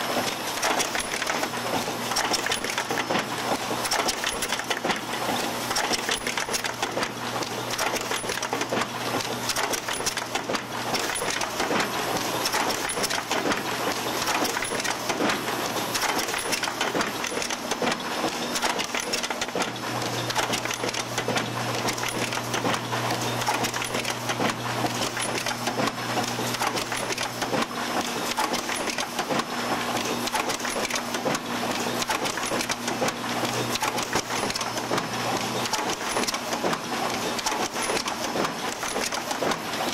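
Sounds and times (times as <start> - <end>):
machinery clattering and clicking: 0.0 - 39.9.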